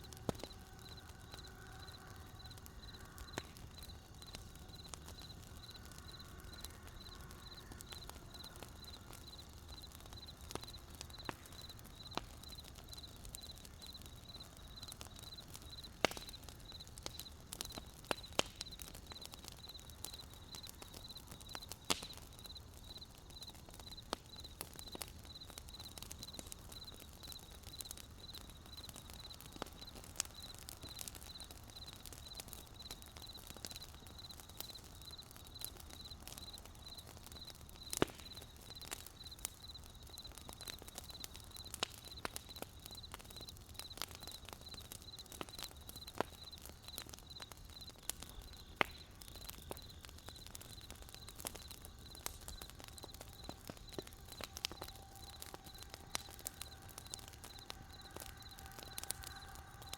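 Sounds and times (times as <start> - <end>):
wood fire crackling: 0.0 - 59.9
crickets chirping: 0.8 - 17.9, 18.7 - 21.7, 22.4 - 59.9.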